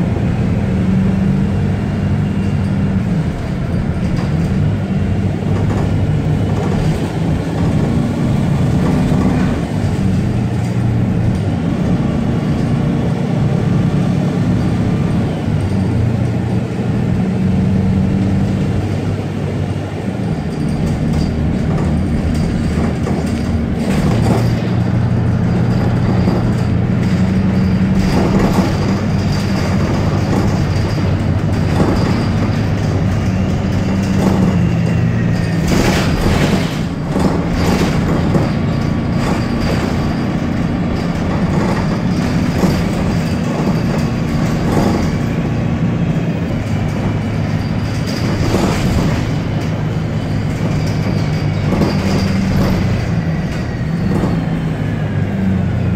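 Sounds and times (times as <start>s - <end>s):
bus engine hum: 0.0s - 55.9s
road noise: 0.0s - 55.9s
knocks and rattles: 0.1s - 55.9s.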